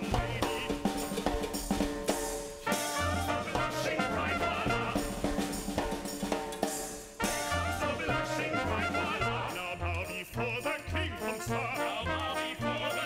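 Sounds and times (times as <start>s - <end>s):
drum kit: 0.0s - 13.0s
jazz band music: 0.0s - 13.0s.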